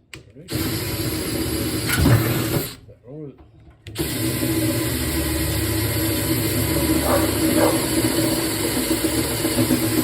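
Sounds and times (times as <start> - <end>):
power drill boring into metal: 0.5 - 2.8, 4.0 - 10.0.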